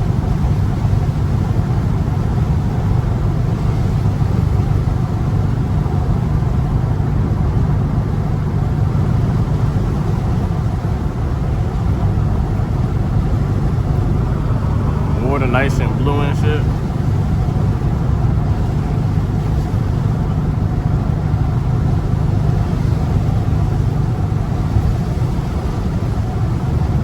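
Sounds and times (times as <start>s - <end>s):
car engine cruising: 0.0s - 27.0s
road noise: 0.0s - 27.0s.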